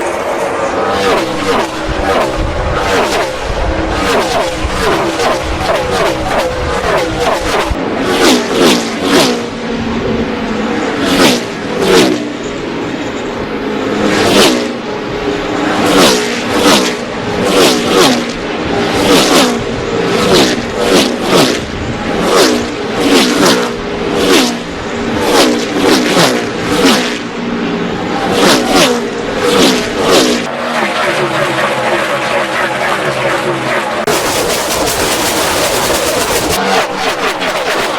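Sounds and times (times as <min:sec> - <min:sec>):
race cars passing at full throttle: 0:00.0 - 0:37.9.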